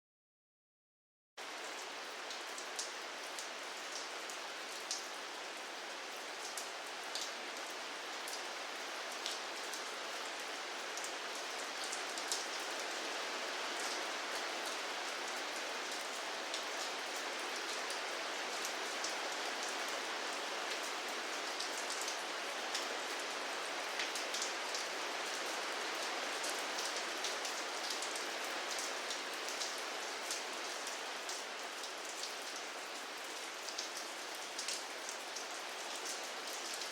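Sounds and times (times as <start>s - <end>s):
steady rain hiss: 1.4s - 36.9s.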